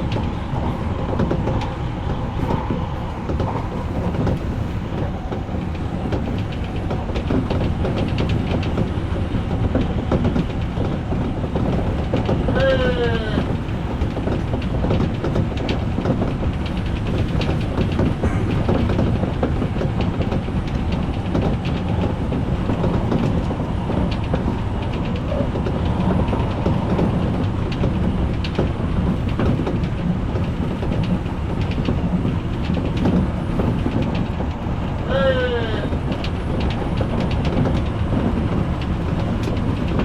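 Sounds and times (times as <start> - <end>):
train wheels rumbling on rails: 0.0 - 40.0
wheels clicking over rail joints: 0.0 - 40.0.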